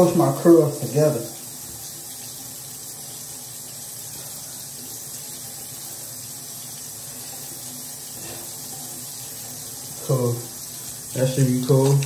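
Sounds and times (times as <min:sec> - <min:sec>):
faucet water splashing into basin: 0:00.0 - 0:12.0.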